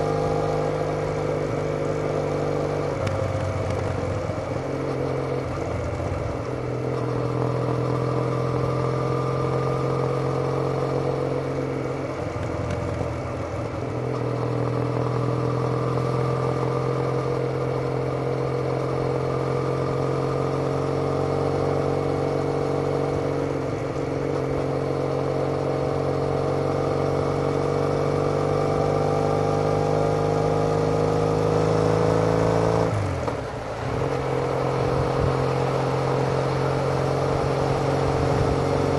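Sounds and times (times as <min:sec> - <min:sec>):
motorcycle exhaust while riding: 0:00.0 - 0:38.9.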